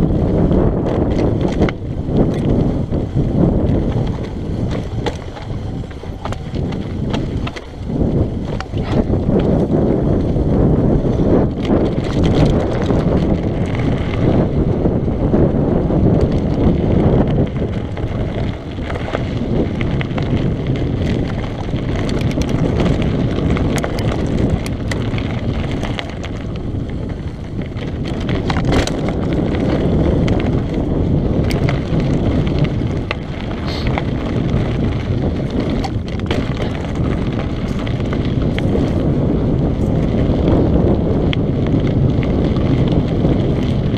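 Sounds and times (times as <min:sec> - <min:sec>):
bike clicks and rattles: 0:00.0 - 0:43.9
tyres rolling over dirt and stones: 0:00.0 - 0:43.9
wind noise on microphone: 0:00.0 - 0:43.9.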